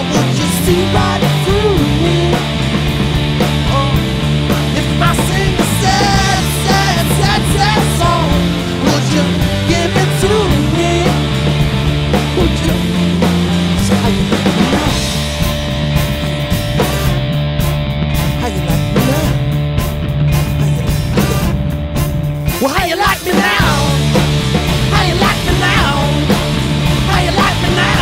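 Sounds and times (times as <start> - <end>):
rock music with singing: 0.0 - 28.0
steady bass line: 0.0 - 28.0.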